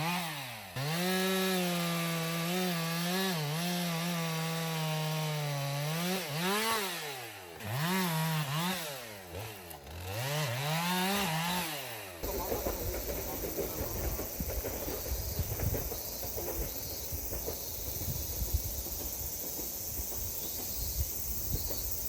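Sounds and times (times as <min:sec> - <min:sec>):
chainsaw engine revving: 0:00.0 - 0:20.5.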